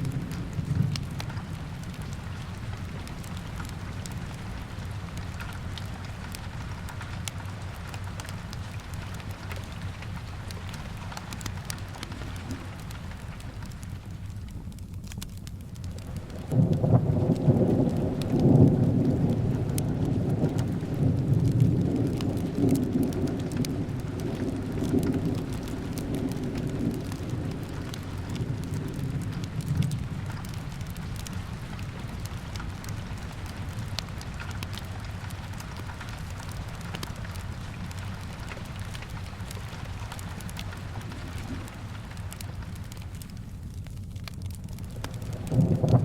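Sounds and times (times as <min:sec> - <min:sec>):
thunder rumbling: 0:00.0 - 0:14.0, 0:15.9 - 0:43.4, 0:44.6 - 0:46.0
steady rain: 0:00.0 - 0:46.0
wood fire crackling: 0:00.0 - 0:46.0.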